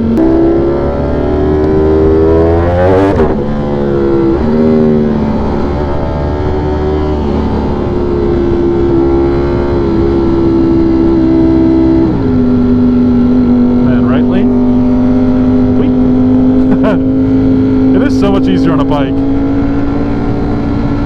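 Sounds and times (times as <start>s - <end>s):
low wind rumble: 0.0s - 21.0s
motorcycle engine revving: 0.0s - 21.0s.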